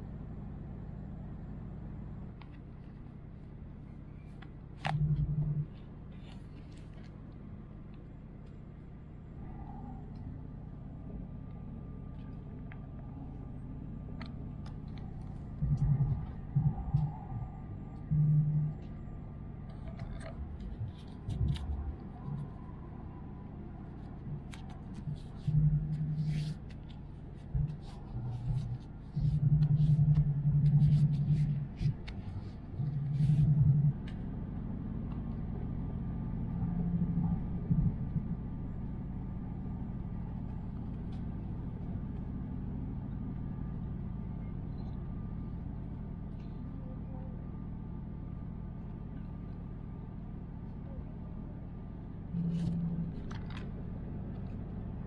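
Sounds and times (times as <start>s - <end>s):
train cabin rumble: 0.0s - 47.8s.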